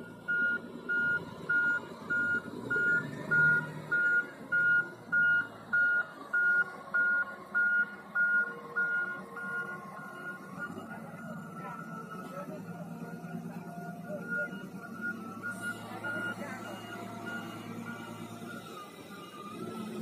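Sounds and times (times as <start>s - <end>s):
back-up alarm beeping: 0.0s - 12.3s, 13.1s - 20.0s
diesel engine running: 0.0s - 20.0s.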